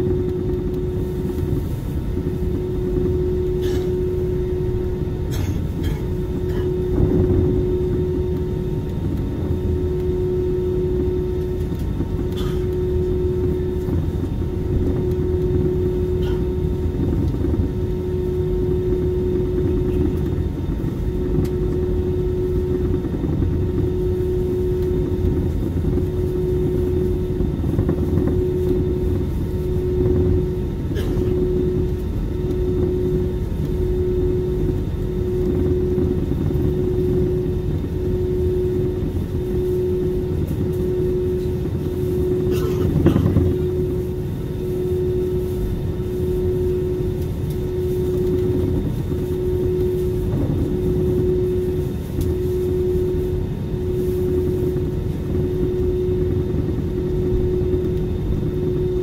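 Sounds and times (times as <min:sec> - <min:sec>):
jet engine rumble: 0:00.0 - 0:59.0
steady hum: 0:00.0 - 0:59.0.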